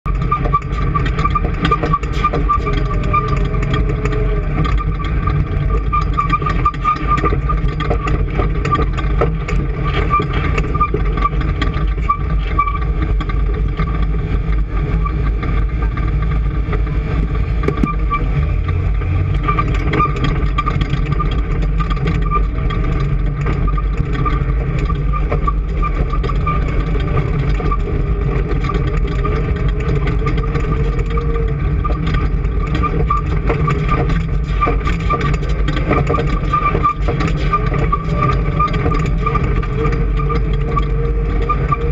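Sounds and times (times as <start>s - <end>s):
engine running steadily: 0.0s - 41.9s
high whine: 0.1s - 41.9s.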